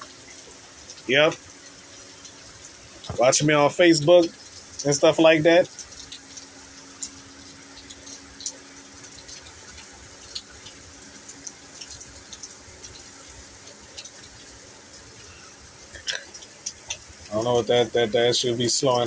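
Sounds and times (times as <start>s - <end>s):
sharp drip ticks: 0.0s - 19.0s
steady rain pouring: 0.0s - 19.0s.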